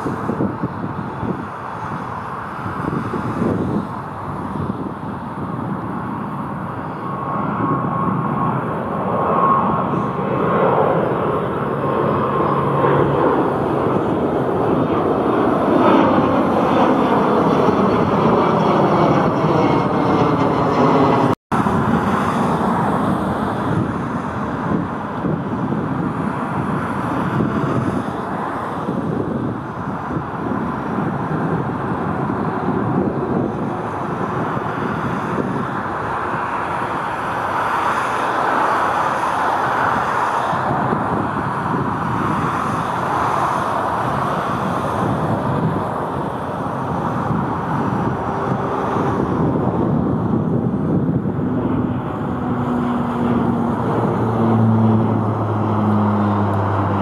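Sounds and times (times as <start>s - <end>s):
jet engines passing: 0.0s - 57.0s.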